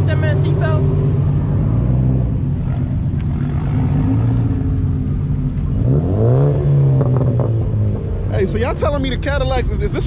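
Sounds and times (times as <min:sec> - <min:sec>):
car engine running and revving: 0:00.0 - 0:10.0.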